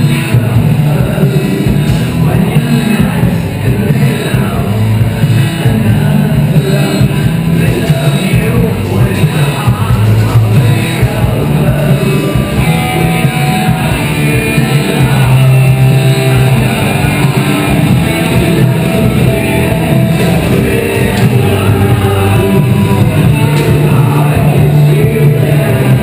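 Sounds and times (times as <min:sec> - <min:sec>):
loud rock music with guitar: 0:00.0 - 0:26.0.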